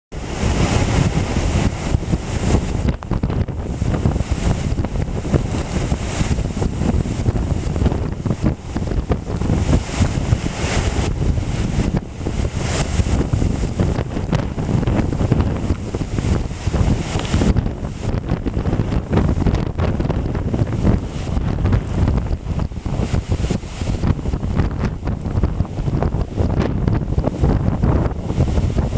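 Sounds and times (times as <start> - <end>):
wind buffeting microphone: 0.1 - 28.9.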